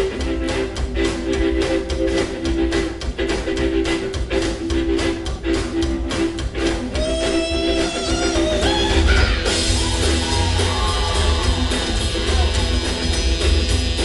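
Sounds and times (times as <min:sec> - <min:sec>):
saxophone: 0:00.0 - 0:11.6
drums: 0:00.0 - 0:14.0
electric guitar: 0:00.0 - 0:14.0
upright bass: 0:00.0 - 0:14.0.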